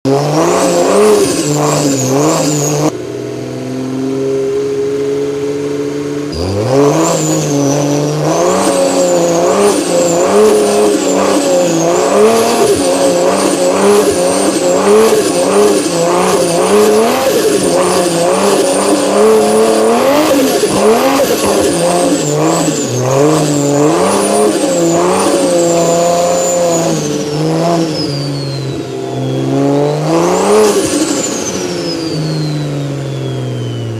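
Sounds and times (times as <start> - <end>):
car engine revving: 0.0 - 33.9
high turbo whistle: 6.3 - 33.9.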